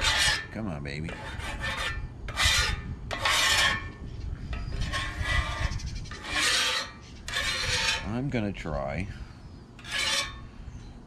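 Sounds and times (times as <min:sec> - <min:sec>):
metal scraper scraping griddle: 0:00.0 - 0:08.4, 0:09.8 - 0:10.5.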